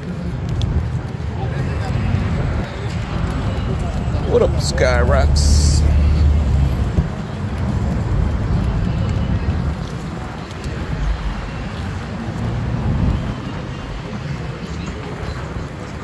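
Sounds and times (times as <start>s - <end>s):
street traffic: 0.0s - 16.0s
wind buffeting microphone: 0.0s - 16.0s.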